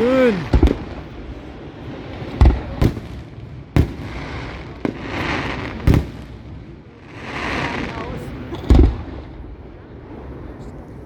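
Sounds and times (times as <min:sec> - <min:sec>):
hissing crackle of fireworks: 0:00.0 - 0:10.7.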